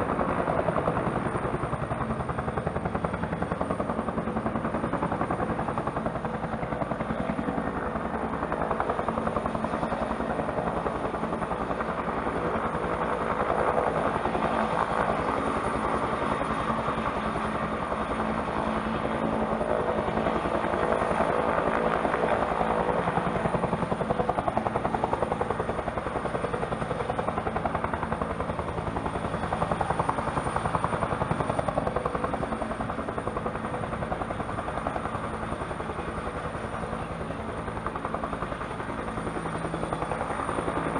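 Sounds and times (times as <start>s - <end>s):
helicopter rotor chopping: 0.0s - 40.9s.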